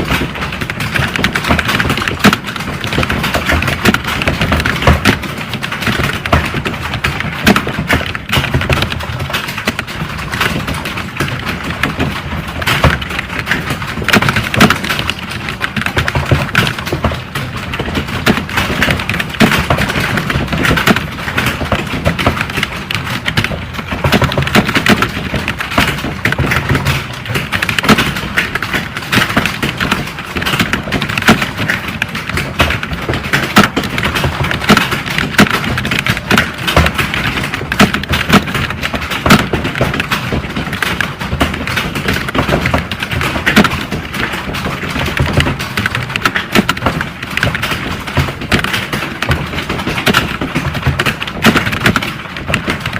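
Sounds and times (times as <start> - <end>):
fast typing on keyboards: 0.0 - 52.9.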